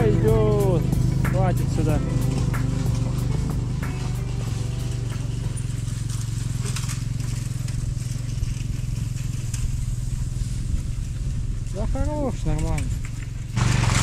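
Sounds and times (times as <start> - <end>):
engine running steadily: 0.0 - 14.0
faint crackles: 0.5 - 14.0.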